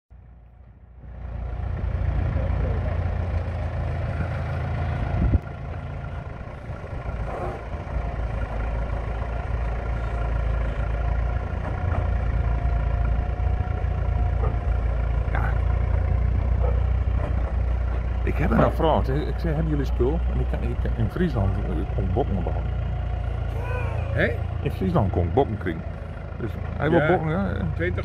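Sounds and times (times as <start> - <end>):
tractor engine under load: 0.1 - 28.0.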